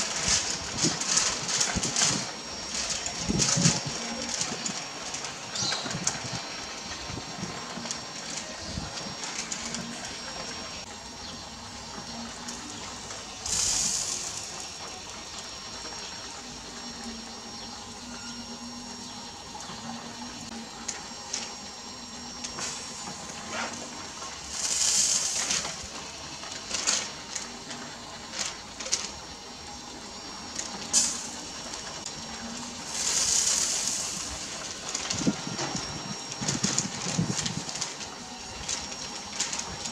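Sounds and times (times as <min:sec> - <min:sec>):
fat sizzling on embers: 0:00.0 - 0:39.9
hot coals hissing: 0:00.0 - 0:39.9.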